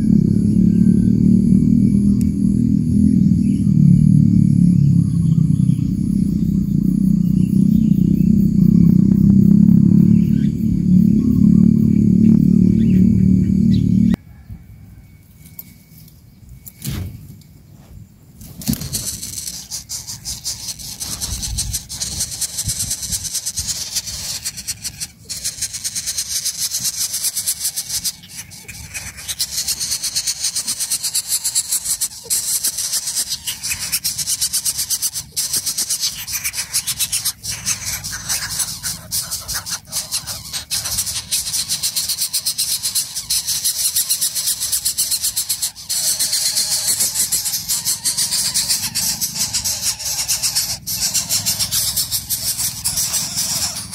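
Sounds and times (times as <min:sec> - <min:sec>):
chicks begging with rasping hiss: 0:00.0 - 0:14.2, 0:17.8 - 0:53.9.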